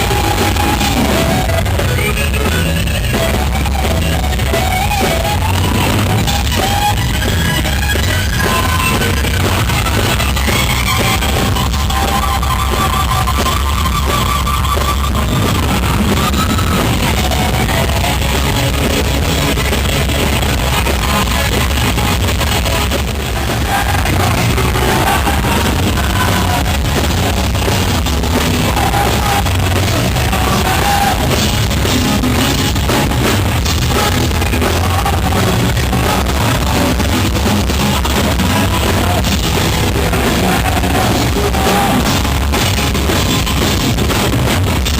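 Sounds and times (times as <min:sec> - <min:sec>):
electric guitar lead lines: 0:00.0 - 0:44.9
live hard rock band: 0:00.0 - 0:44.9.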